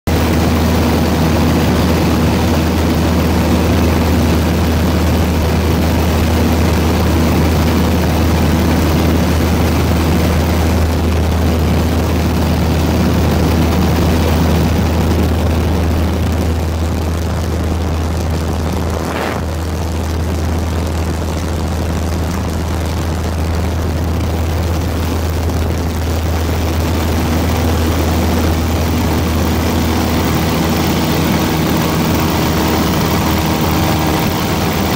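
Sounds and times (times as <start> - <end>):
aircraft engines droning: 0.1 - 34.9.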